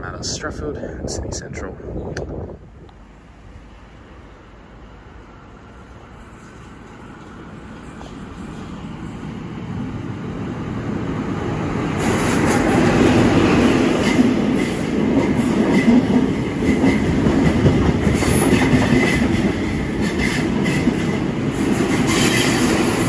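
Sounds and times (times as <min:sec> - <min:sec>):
diesel train passing: 0:02.7 - 0:23.0
wheels on rail: 0:02.7 - 0:23.0.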